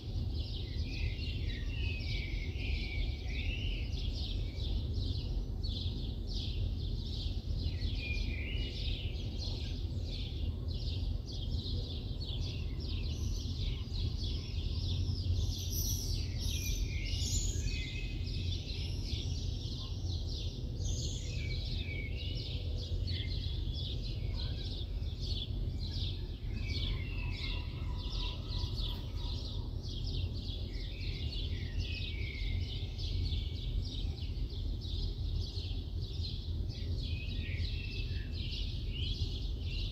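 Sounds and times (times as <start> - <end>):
low city rumble: 0.0 - 39.9
small birds chirping: 0.0 - 39.9.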